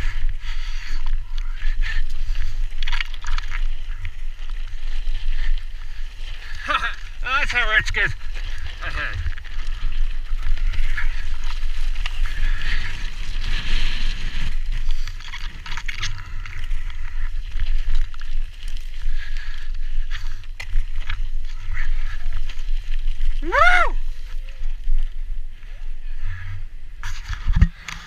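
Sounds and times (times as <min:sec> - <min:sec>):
bike rattling: 0:00.0 - 0:28.0
bike tyres on gravel: 0:00.0 - 0:28.0.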